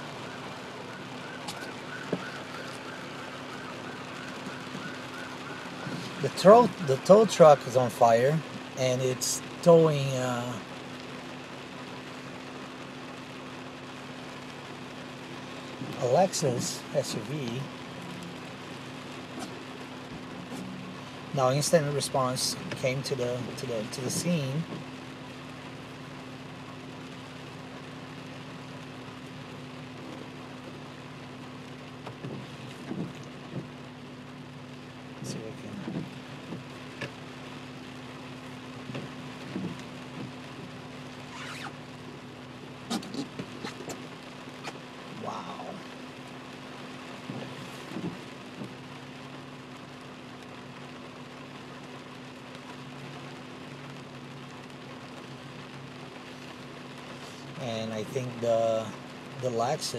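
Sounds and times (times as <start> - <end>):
car engine humming: 0.0 - 59.9
rain on windshield: 0.0 - 59.9.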